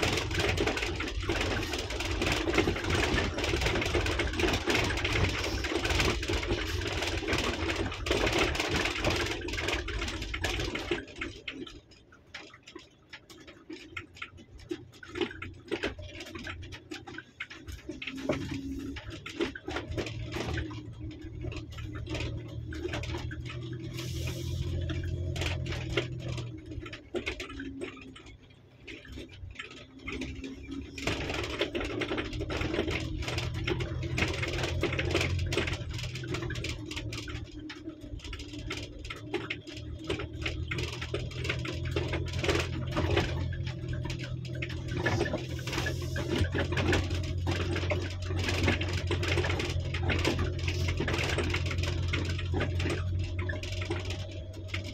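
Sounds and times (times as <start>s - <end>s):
car engine hum: 0.0s - 54.9s
stones rattling under tyres: 0.0s - 54.9s.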